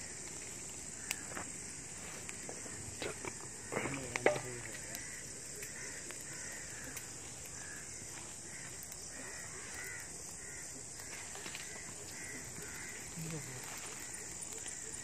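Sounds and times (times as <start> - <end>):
brush fire crackling: 0.0 - 15.0
night insects hissing: 0.0 - 15.0.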